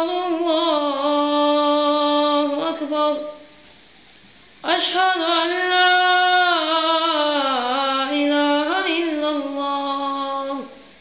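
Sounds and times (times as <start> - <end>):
person chanting: 0.0 - 3.4, 4.6 - 10.8.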